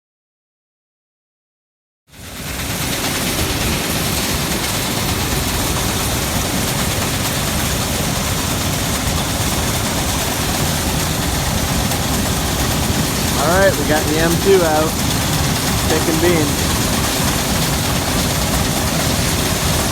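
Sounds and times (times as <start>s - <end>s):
combine harvester running: 2.2s - 19.9s.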